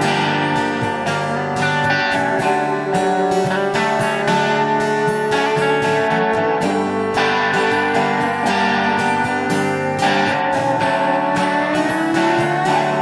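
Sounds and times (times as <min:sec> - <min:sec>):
electric guitar: 0:00.0 - 0:13.0
strummed acoustic guitar: 0:00.0 - 0:13.0.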